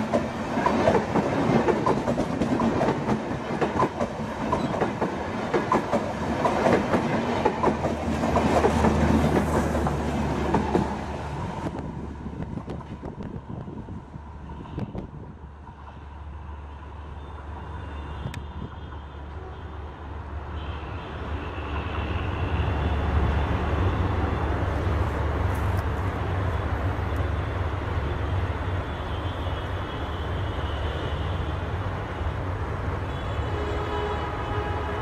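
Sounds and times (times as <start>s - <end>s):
passenger train rumbling on tracks: 0.0s - 35.0s.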